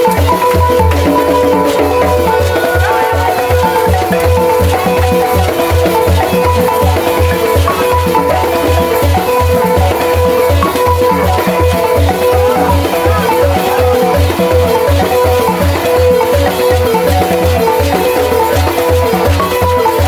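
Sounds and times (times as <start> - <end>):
balafon notes: 0.0 - 20.0
shakers rattling: 0.0 - 20.0.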